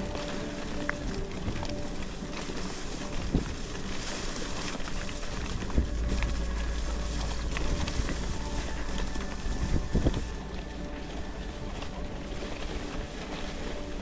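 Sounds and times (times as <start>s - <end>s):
bicycle tyres rattling on dirt: 0.0s - 14.0s
wind rumble on microphone: 0.0s - 14.0s.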